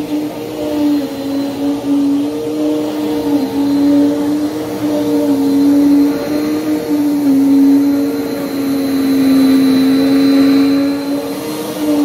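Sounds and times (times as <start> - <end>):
vacuum cleaner running on carpet: 0.0 - 12.0.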